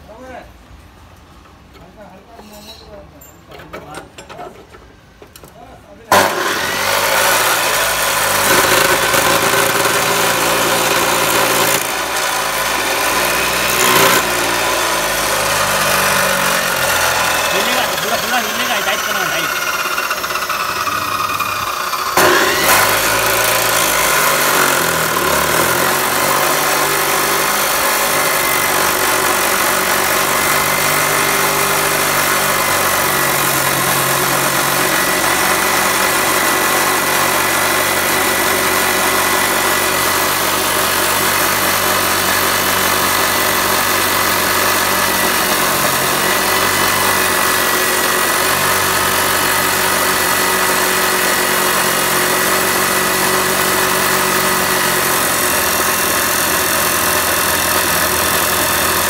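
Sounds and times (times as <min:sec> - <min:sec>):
chop saw grinding metal: 0:06.1 - 0:59.0
saw motor running: 0:06.1 - 0:59.0
saw wheel knock: 0:06.1 - 0:59.0.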